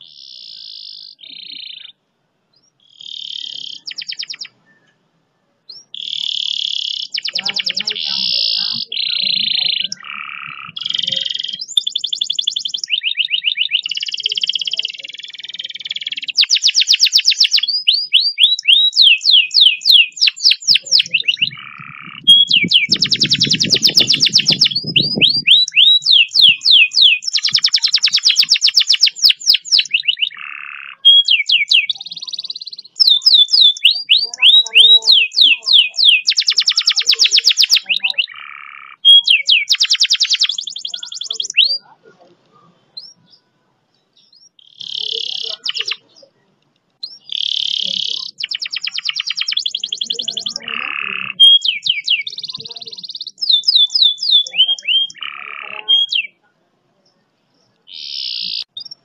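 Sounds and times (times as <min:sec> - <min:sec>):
canary singing trills: 0:00.0 - 0:05.0, 0:05.7 - 0:59.0.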